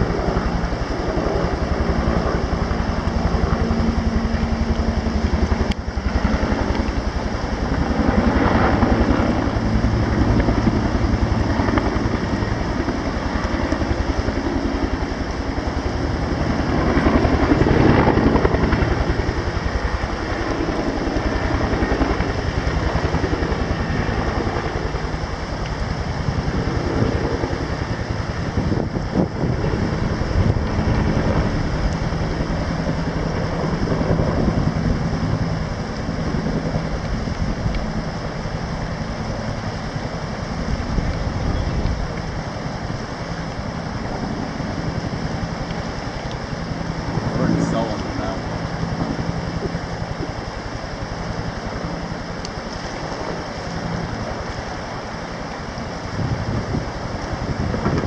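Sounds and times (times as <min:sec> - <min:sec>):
helicopter rotor and engine rumble: 0:00.0 - 0:58.0
rushing wind from downwash: 0:00.0 - 0:58.0.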